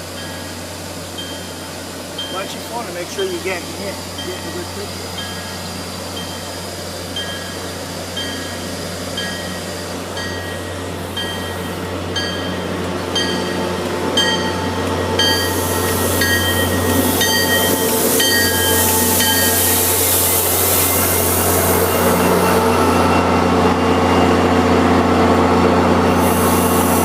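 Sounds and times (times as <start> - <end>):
train humming: 0.0 - 27.0.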